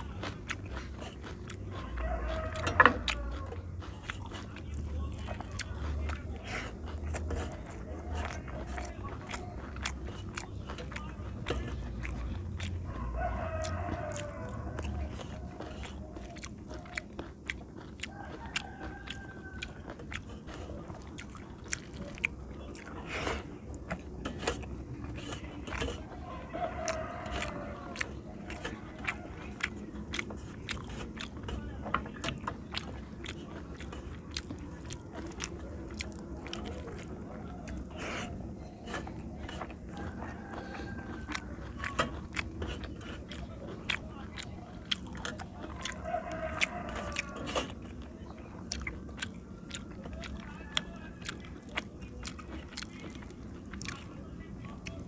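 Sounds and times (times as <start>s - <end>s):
fingers working rice on plate: 0.0s - 54.1s
wet chewing and lip smacking: 0.0s - 55.0s.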